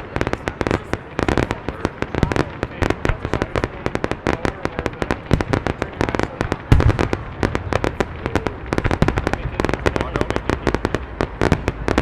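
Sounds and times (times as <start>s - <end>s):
deep firework boom: 0.0s - 12.0s
fireworks crackling and popping: 0.0s - 12.0s.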